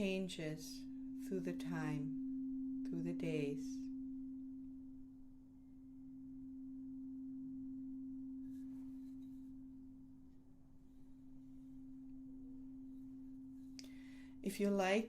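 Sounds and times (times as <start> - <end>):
sustained pure ringing tone: 0.0 - 15.0.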